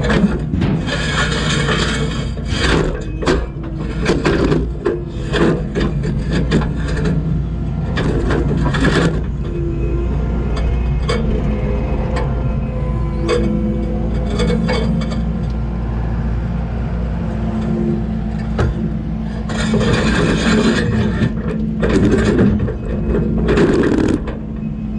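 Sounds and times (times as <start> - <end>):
skid steer engine running: 0.0 - 24.9.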